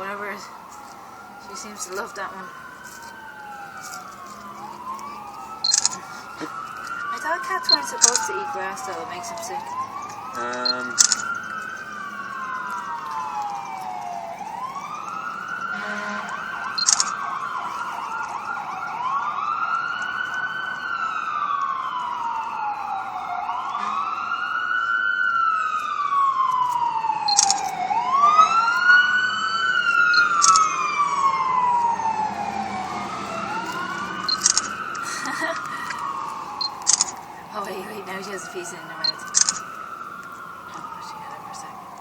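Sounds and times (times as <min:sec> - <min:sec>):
emergency sirens wailing: 0:00.0 - 0:42.0.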